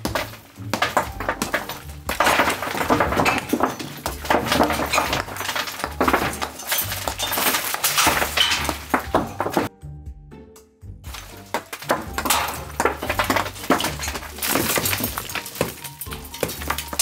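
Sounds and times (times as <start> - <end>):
clay pieces clinking and crumbling: 0.0 - 9.7, 11.1 - 17.0
hammer striking brick: 0.0 - 9.7, 11.2 - 17.0.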